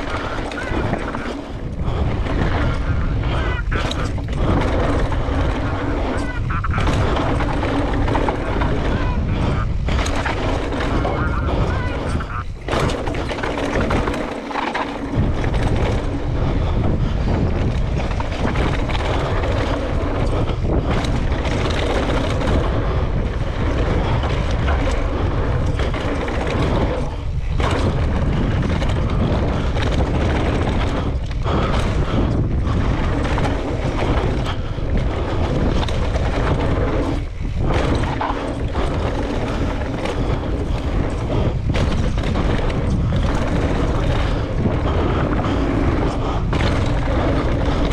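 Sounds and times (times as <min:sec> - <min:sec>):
steady low rumble: 0:00.0 - 0:47.9
wind on microphone: 0:00.0 - 0:47.9.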